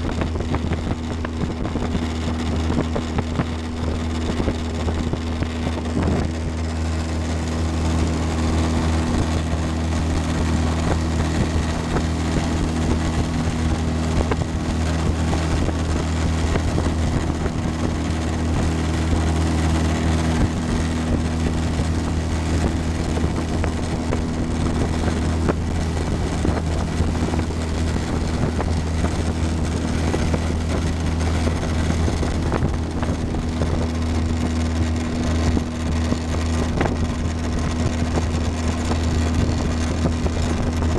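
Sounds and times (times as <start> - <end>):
motorboat engine humming: 0.0 - 40.9
rushing wind and water: 0.0 - 40.9.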